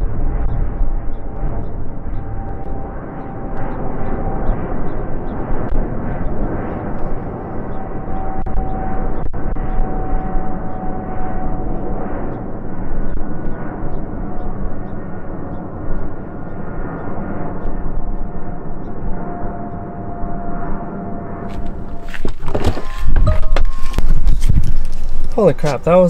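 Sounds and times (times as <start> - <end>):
jet engines roaring with whine: 0.0 - 26.0.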